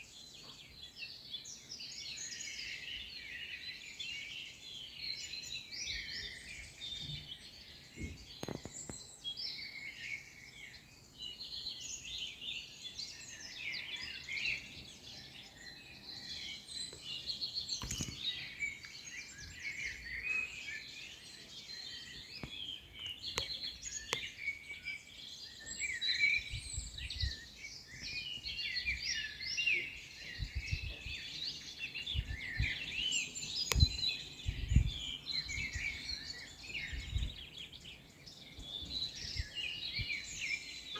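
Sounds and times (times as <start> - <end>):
songbirds chorus: 0.0 - 40.9.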